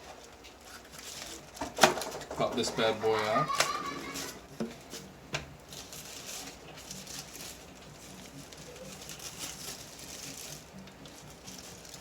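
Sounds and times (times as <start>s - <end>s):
soft rustling of foam packaging: 0.0s - 3.4s, 4.0s - 12.0s.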